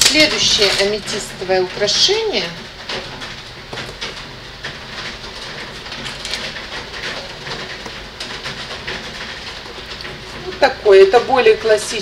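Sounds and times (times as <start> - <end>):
rain pouring: 0.0 - 12.0
raindrops tapping hard surfaces: 0.0 - 12.0.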